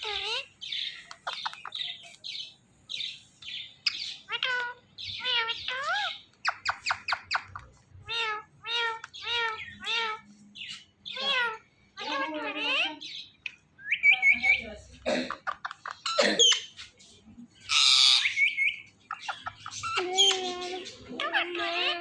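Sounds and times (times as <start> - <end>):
parakeets calling: 0.0 - 22.0.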